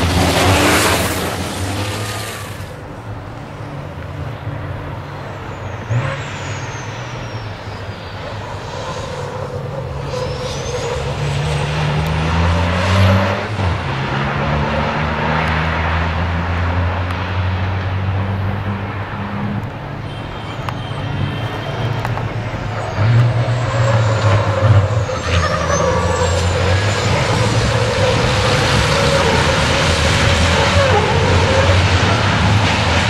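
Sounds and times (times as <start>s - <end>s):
racing truck engines: 0.0s - 33.0s.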